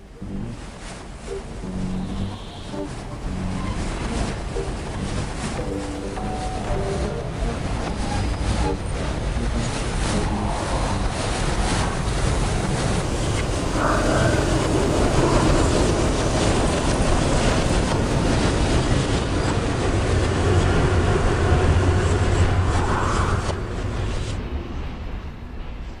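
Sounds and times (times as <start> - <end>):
loud rumbling: 0.0 - 25.5
low hum: 0.0 - 25.9.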